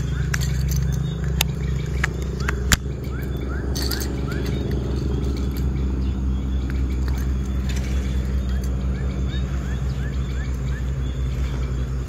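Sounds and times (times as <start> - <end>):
bird chirps: 0.0 - 12.0
distant engine drone: 0.0 - 12.0.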